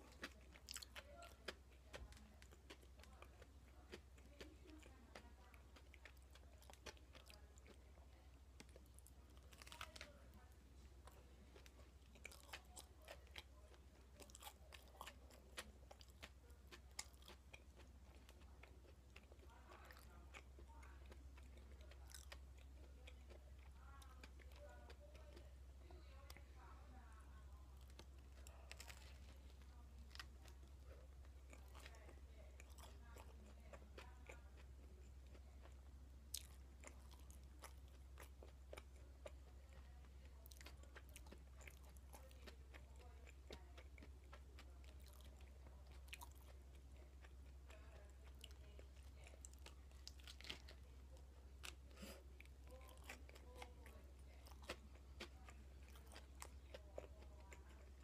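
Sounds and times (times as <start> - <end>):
chewing crunchy toast: 0.0 - 58.0
steady low hum: 0.0 - 58.0.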